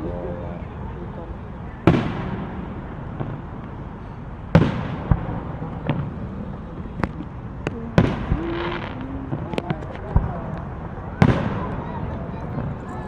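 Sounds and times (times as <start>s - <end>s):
fireworks crackling: 1.3s - 13.0s
fireworks bangs: 1.5s - 13.0s.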